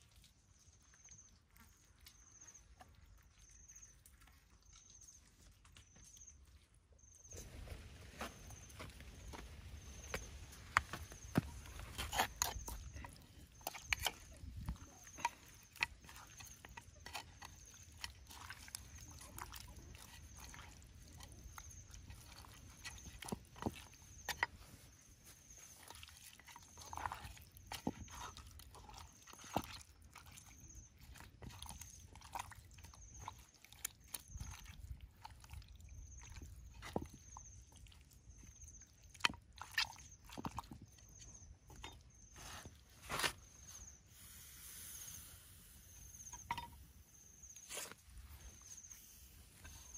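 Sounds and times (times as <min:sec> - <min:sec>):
wet squelching of kneading: 0:00.0 - 0:43.9.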